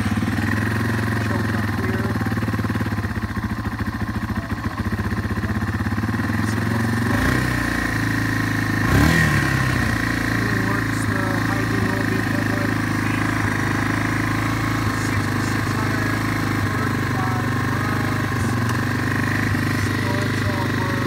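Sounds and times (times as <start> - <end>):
engine revving: 0.0 - 3.1, 5.3 - 21.0
motorcycle engine idling: 0.0 - 21.0.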